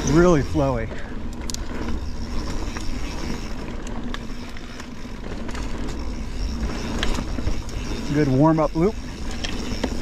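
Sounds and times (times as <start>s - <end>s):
bike clicks and rattles: 0.0s - 10.0s
bike tyres on dirt trail: 0.0s - 10.0s.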